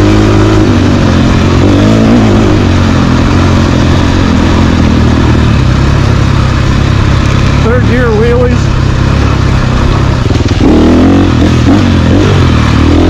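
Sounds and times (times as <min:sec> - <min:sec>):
loud rushing noise: 0:00.0 - 0:13.0
motorcycle engine running: 0:00.0 - 0:13.0.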